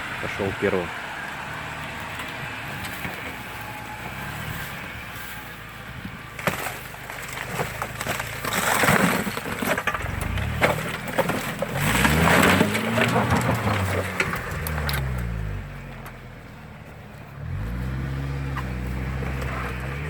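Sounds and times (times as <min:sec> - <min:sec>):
engine running under load: 0:00.0 - 0:20.0
cracks and crunches under tyres: 0:01.1 - 0:20.0.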